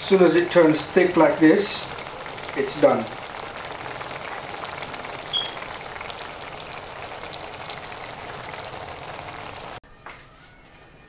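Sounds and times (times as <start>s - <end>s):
sauce sizzling and popping: 0.0s - 9.8s.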